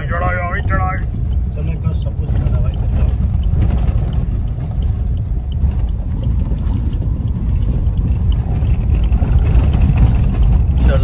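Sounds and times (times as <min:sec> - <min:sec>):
car rumbling on dirt track: 0:00.0 - 0:11.0.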